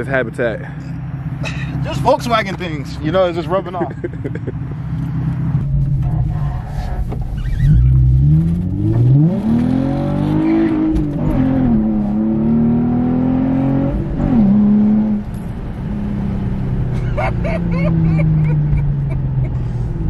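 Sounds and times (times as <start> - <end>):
car engine accelerating: 0.8 - 20.0.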